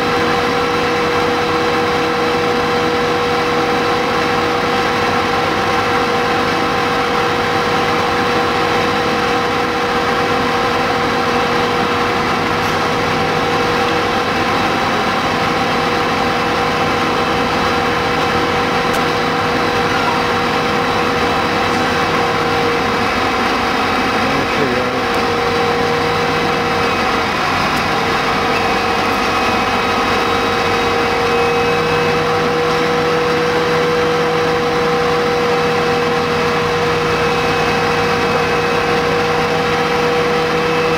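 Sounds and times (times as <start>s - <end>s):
fire engine running: 0.0s - 40.9s.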